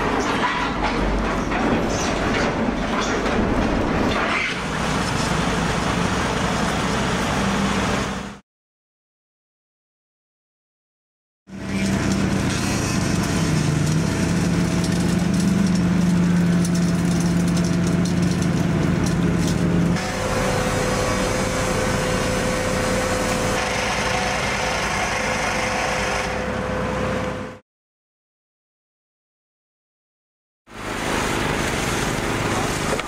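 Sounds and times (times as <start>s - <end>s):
site machinery: 0.0s - 8.4s, 11.5s - 27.6s, 30.7s - 33.0s.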